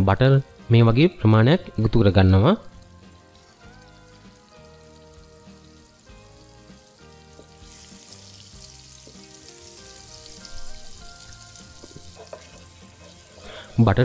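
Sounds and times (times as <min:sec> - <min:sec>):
soft background music: 0:00.0 - 0:14.0
butter sizzling in a frying pan: 0:01.7 - 0:14.0.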